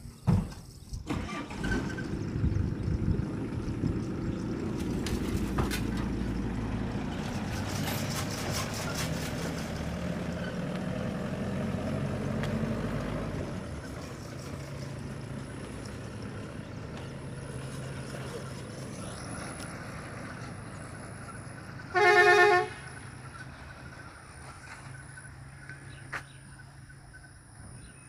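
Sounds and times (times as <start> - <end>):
truck engine pulling away: 1.1 - 27.8.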